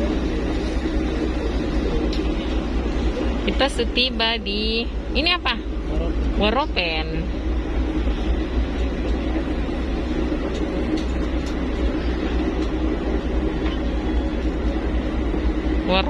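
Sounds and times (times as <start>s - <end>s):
boat engines droning: 0.0s - 16.0s
hull and water noise: 0.0s - 16.0s.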